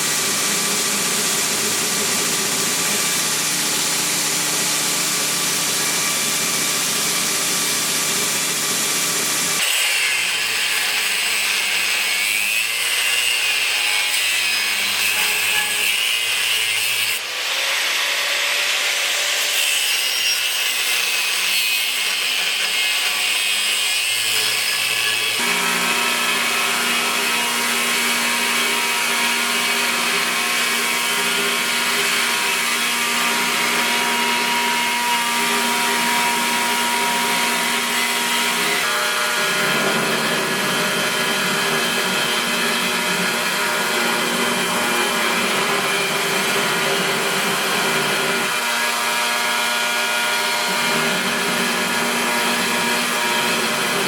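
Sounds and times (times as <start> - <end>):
electric grinder grinding steel: 0.0 - 54.0.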